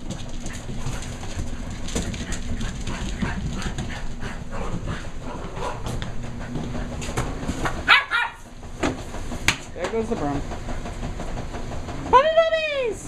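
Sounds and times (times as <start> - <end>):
puppies scuffling and scrabbling: 0.0 - 12.2
washing machine hum: 0.0 - 13.0.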